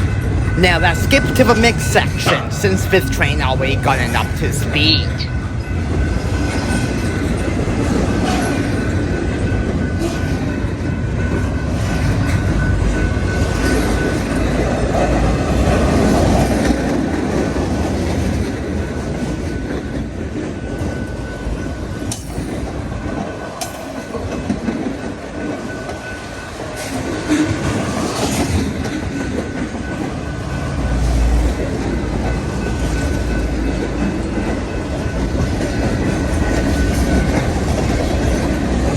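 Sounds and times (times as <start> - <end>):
train wheels rumbling on rail: 5.5 - 38.9
clickety-clack over rail joints: 5.9 - 38.9.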